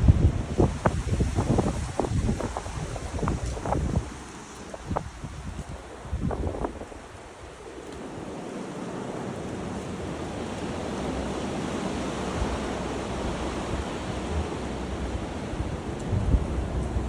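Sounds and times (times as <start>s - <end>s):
gusty wind rushing: 0.0s - 7.2s, 9.6s - 17.0s
wind buffeting microphone: 0.0s - 17.0s.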